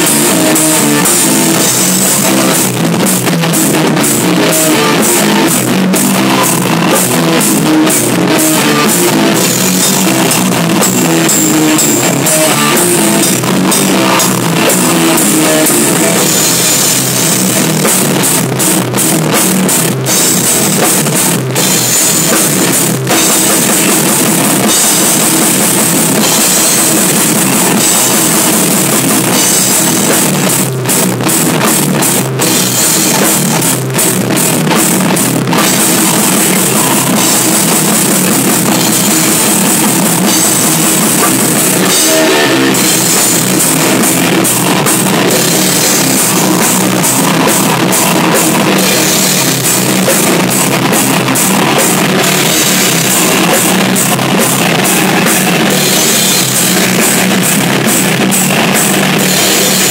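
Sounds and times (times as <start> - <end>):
distorted electric guitar: 0.0 - 59.9
drum kit with cymbals: 0.0 - 59.9
electric bass: 0.0 - 59.9.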